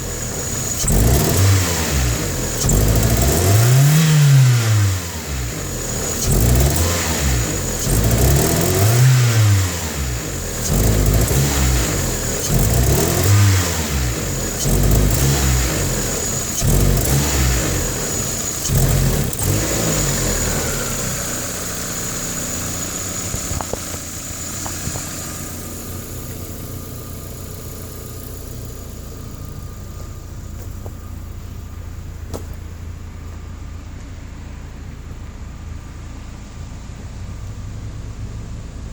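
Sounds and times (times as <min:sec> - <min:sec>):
car engine revving: 0:00.0 - 0:36.3.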